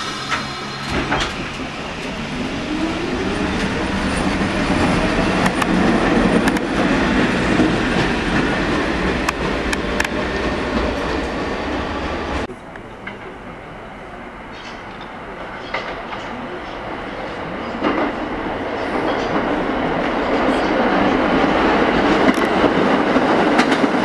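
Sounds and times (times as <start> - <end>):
subway train motor whine and rumble: 0.0 - 24.0.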